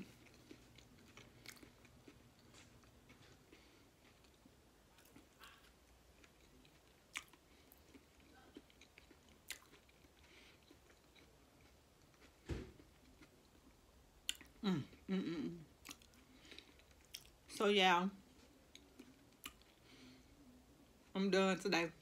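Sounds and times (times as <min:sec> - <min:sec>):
person chewing and swallowing: 0:00.0 - 0:17.4, 0:18.5 - 0:20.0.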